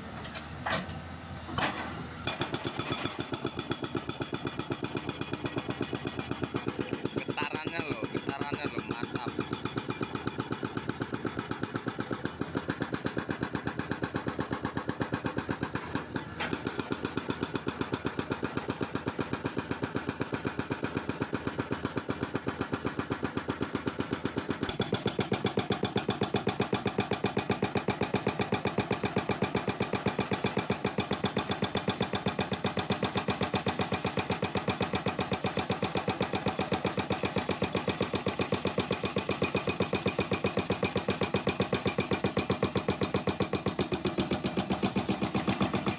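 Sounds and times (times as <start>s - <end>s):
hydraulic breaker hammering concrete: 2.2s - 45.9s
diesel engine running: 4.6s - 45.9s.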